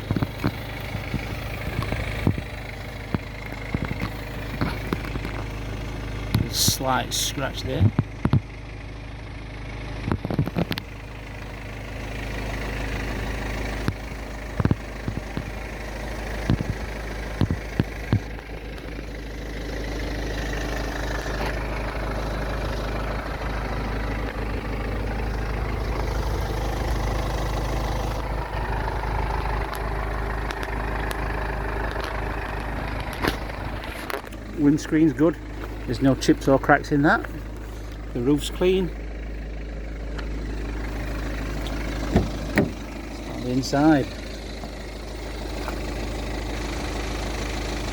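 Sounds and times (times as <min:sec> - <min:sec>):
vehicle engine humming: 0:00.0 - 0:47.9.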